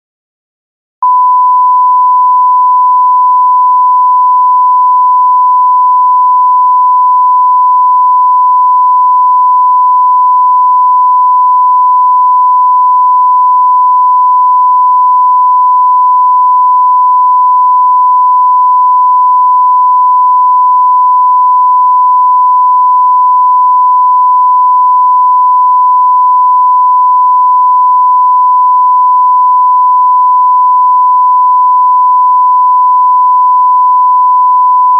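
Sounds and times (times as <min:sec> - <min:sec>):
censor bleep tone: 0:01.0 - 0:34.9.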